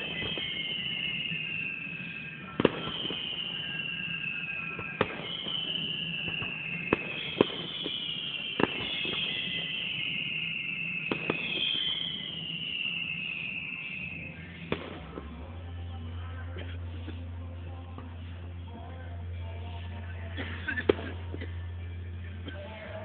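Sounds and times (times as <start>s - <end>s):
falling firework whistles: 0.0s - 23.0s
fireworks bangs: 0.0s - 23.0s.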